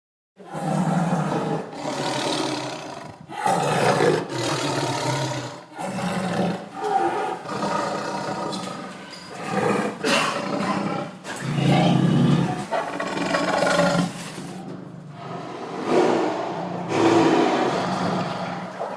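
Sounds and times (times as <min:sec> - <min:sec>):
tiger roaring and growling: 0:00.4 - 0:18.9.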